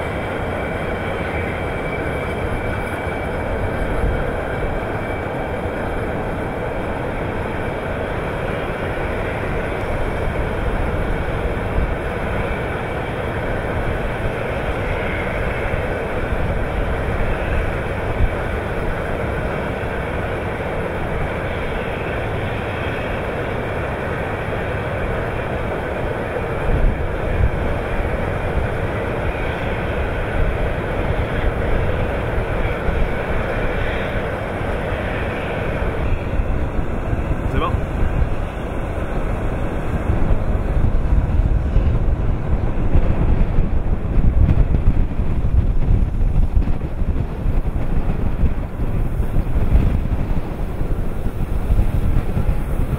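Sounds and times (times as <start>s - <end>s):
heavy machinery rumble and clatter: 0.0s - 52.9s.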